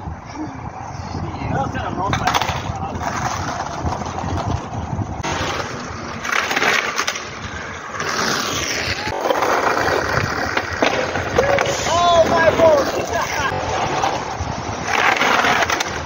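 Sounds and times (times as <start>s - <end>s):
skateboard wheels rolling on asphalt: 0.0s - 16.0s
skateboard clacking: 2.0s - 16.0s.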